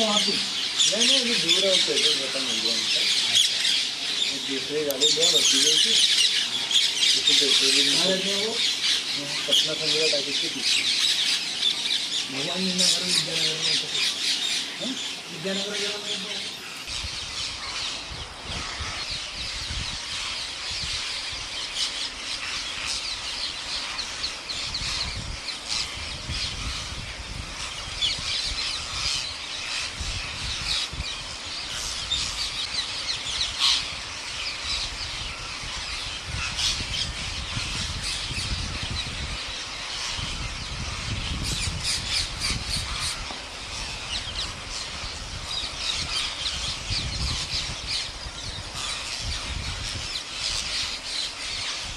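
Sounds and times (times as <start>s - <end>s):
flock of parakeets squawking: 0.0s - 51.9s.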